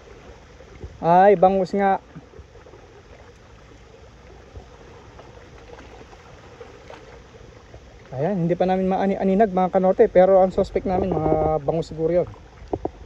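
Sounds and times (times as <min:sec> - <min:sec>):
sea water lapping against rocks: 0:00.0 - 0:13.0.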